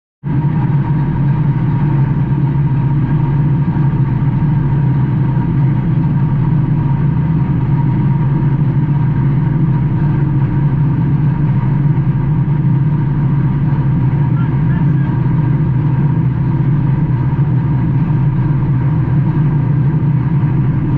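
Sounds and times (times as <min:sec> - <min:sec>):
race car engine running: 0:00.3 - 0:20.9.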